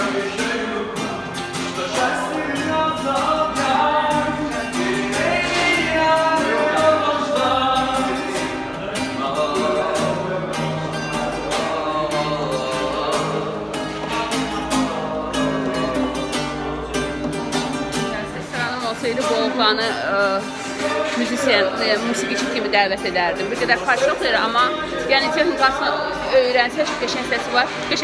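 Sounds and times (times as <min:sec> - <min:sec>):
acoustic guitar strumming: 0:00.0 - 0:28.0
man singing: 0:00.0 - 0:28.0.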